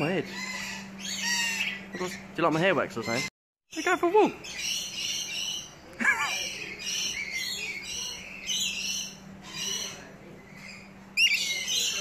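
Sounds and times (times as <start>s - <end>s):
loud wavering bird call: 0.0s - 12.0s
parrots chattering shrilly: 0.0s - 12.0s.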